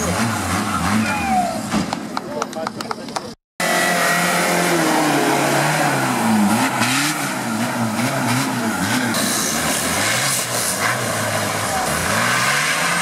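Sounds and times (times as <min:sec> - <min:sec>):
off-road engine revving: 0:00.0 - 0:02.1, 0:03.6 - 0:13.0.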